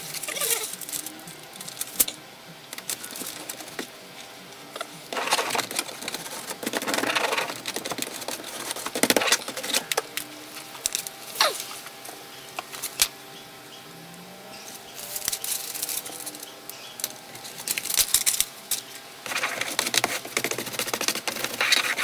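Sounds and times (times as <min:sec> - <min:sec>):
foil tape scraping and crinkling: 0:00.0 - 0:13.2, 0:14.6 - 0:22.0.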